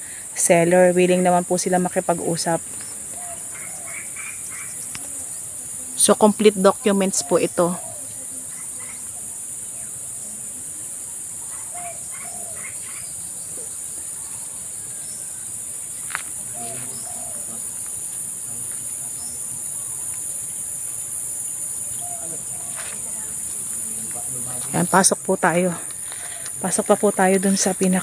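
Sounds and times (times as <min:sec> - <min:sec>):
insects chirring: 0:00.0 - 0:28.0
faint bird calls: 0:02.5 - 0:06.1, 0:06.8 - 0:20.7, 0:21.8 - 0:25.0, 0:25.7 - 0:28.0.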